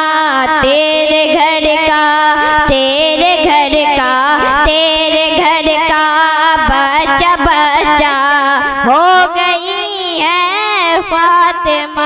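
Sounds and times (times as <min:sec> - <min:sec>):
boy singing into microphone: 0:00.0 - 0:12.0.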